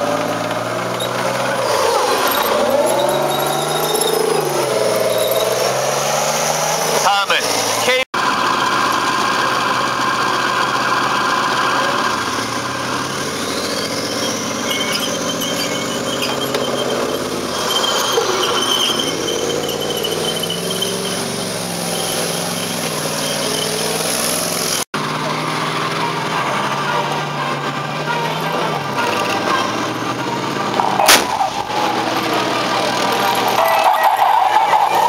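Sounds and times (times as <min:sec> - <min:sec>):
high squeal: 0:00.0 - 0:09.6, 0:11.7 - 0:24.8, 0:26.6 - 0:35.0
tracked vehicle engine running: 0:00.0 - 0:35.0.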